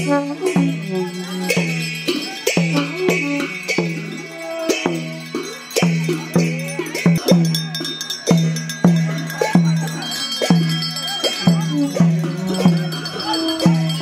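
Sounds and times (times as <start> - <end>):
crowd voices: 0.0 - 14.0
drum beating: 0.0 - 14.0
metallic ringing: 0.0 - 14.0.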